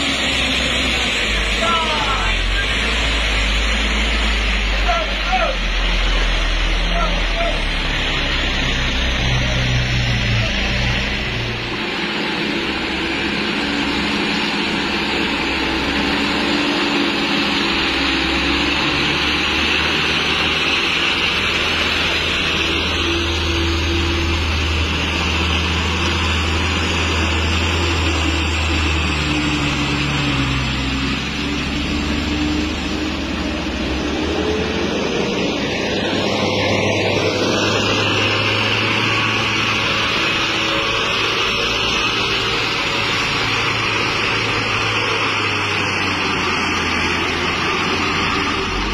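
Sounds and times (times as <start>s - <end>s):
diesel truck engines: 0.0s - 48.9s
trucks driving on wet road: 0.0s - 48.9s.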